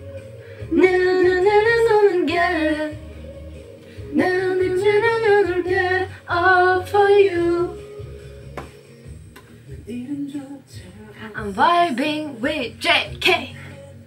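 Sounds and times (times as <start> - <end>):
person singing slow melody: 0.0 - 11.5.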